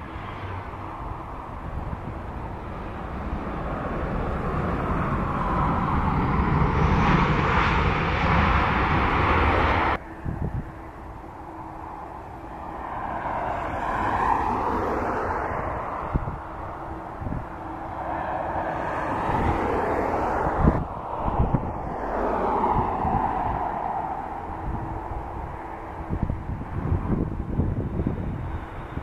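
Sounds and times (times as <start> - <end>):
airliner jet engines landing: 0.0 - 29.0
jet plane landing: 0.0 - 29.0.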